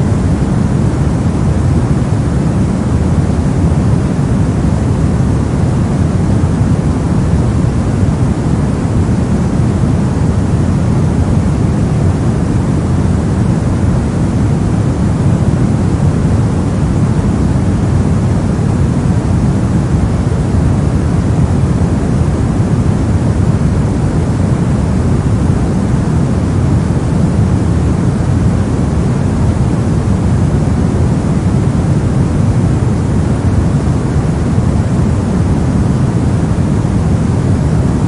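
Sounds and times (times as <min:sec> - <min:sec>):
brown noise: 0:00.0 - 0:38.0.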